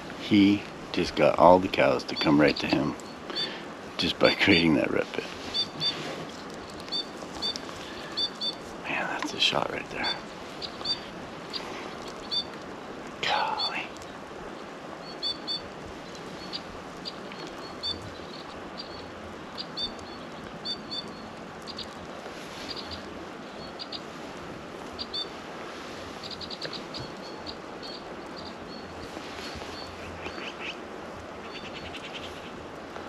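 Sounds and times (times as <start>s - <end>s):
small birds chirping: 0.0s - 24.2s, 24.8s - 33.0s
steady background hiss: 0.0s - 33.0s.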